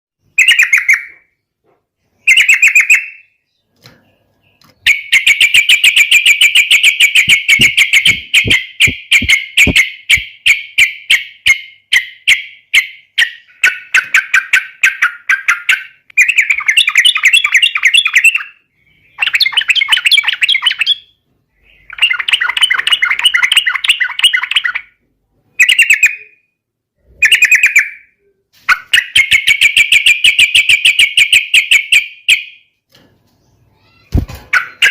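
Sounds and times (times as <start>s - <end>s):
bird singing: 0.2s - 34.9s.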